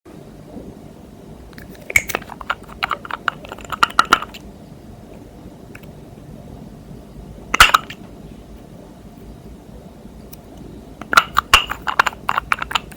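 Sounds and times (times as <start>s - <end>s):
low steady hum: 0.1s - 12.9s.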